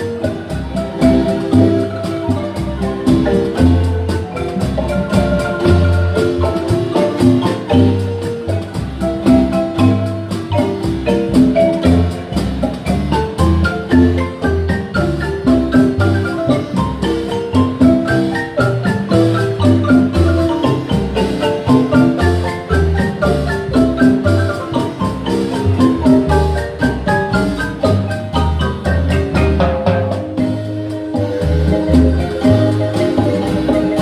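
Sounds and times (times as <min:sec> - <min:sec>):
deep marimba bass notes: 0:00.0 - 0:34.0
marimba mallet strokes: 0:00.0 - 0:34.0.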